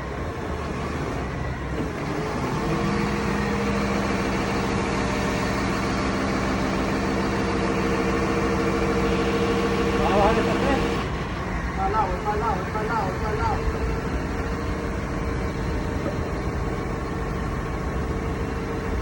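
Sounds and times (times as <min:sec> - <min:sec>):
steady pitched drone: 0:00.0 - 0:19.0
truck engine running: 0:00.0 - 0:19.0.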